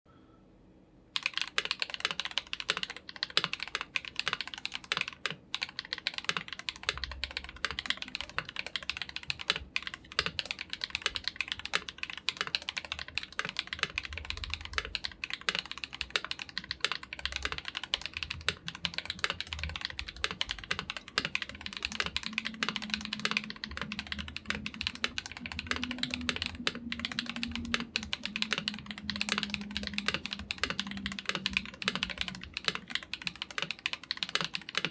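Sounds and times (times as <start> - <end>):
fast mechanical keyboard typing: 1.2 - 34.9.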